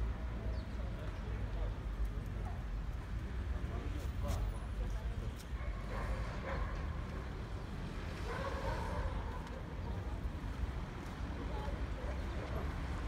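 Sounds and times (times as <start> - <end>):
faint voices of passers-by: 0.0 - 13.0
low rumble of traffic: 0.0 - 13.0.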